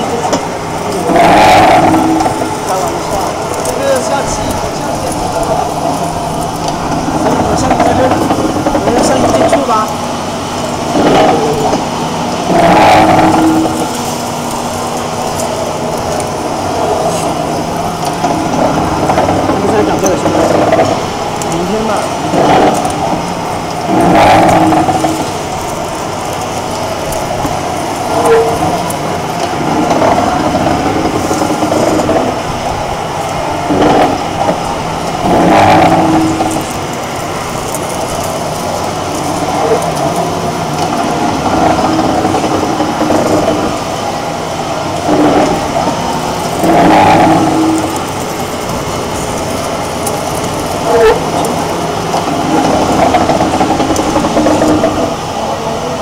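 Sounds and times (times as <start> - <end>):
pipe cutting machine running: 0.0 - 56.0.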